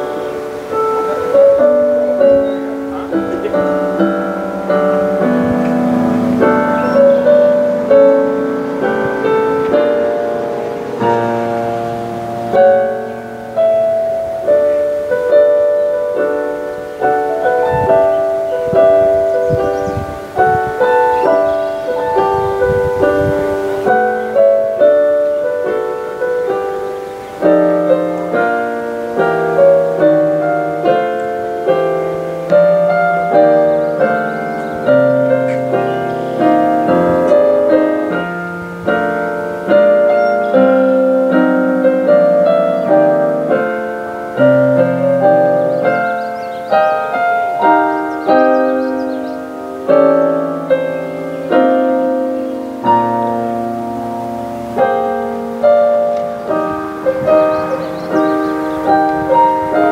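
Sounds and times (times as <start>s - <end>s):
solo piano music: 0.0s - 59.9s.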